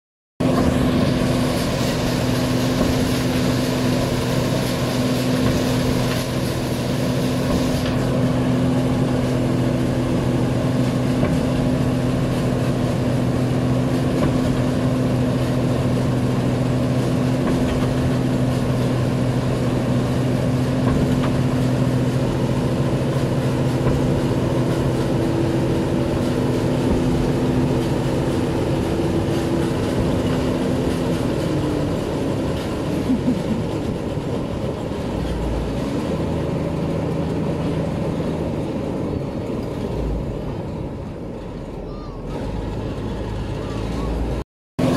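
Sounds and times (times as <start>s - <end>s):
combine harvester engine humming: 0.4s - 44.9s.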